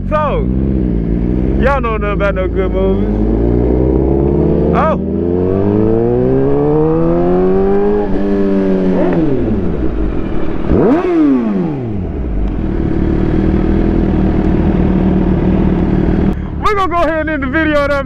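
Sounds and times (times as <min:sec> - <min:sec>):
sportbike engine revving: 0:00.0 - 0:16.4.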